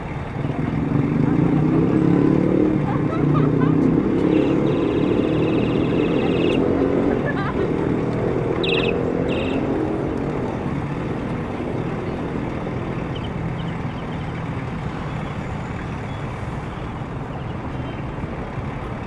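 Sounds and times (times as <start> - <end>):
large vehicle engine: 0.0 - 19.0
road noise: 0.0 - 19.0.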